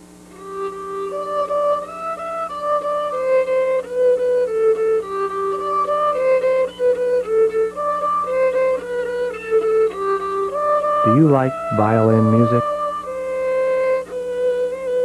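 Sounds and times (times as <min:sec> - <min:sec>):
violin melody: 0:00.4 - 0:15.0.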